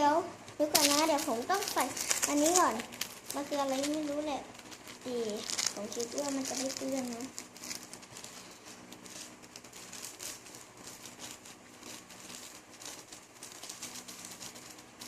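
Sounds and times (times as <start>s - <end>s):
thin plastic crinkling: 0.4s - 15.0s.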